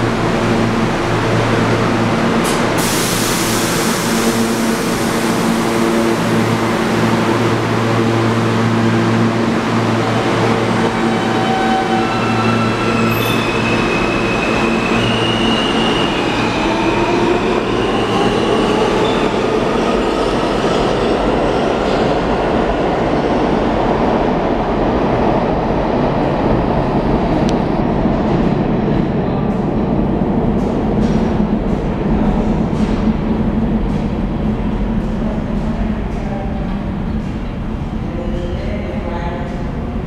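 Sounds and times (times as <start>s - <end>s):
wheels rumbling on rail: 0.0s - 40.0s.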